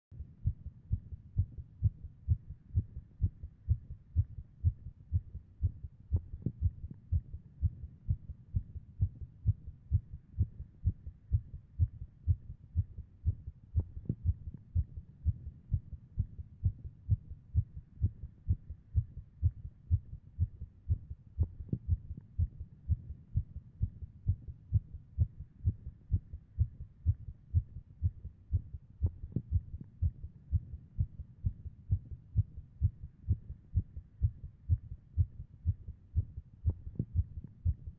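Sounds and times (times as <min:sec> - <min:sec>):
heartbeat thuds: 0:00.2 - 0:37.9.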